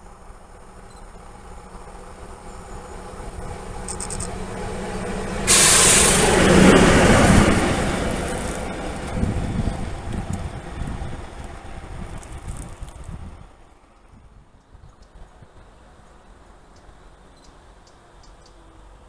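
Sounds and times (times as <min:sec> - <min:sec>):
diesel locomotive passing: 0:00.0 - 0:19.0.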